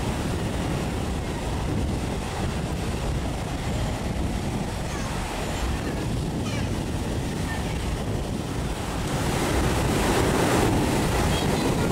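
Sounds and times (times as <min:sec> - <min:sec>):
surf breaking on sandy shore: 0:00.0 - 0:11.9
wind buffeting microphone: 0:00.0 - 0:11.9.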